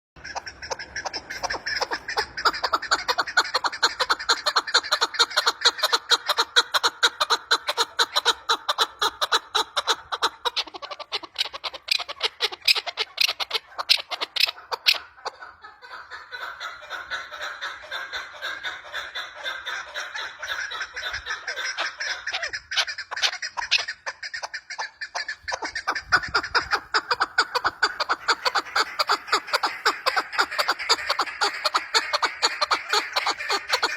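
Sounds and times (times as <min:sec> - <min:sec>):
partridge calling: 0:00.2 - 0:33.9.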